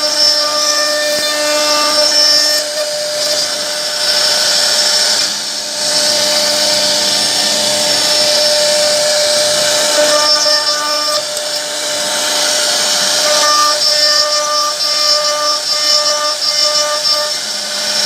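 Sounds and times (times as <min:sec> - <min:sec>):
router spindle cutting wood: 0:00.0 - 0:18.0.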